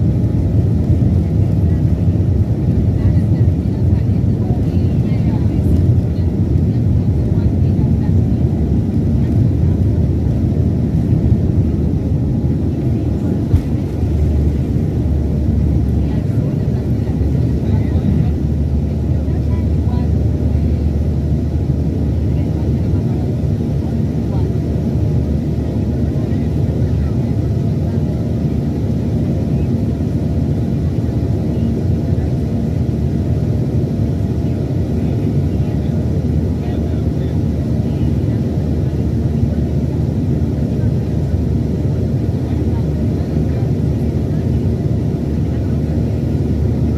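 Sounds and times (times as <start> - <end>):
jet engine cabin rumble: 0.0 - 46.9.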